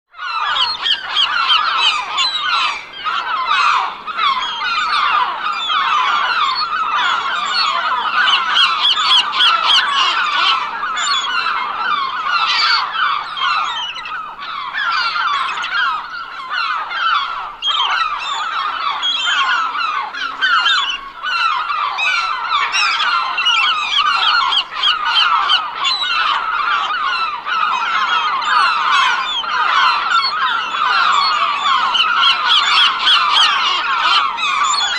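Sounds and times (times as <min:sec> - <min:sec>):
flock of seagulls calling: 0:00.1 - 0:34.9.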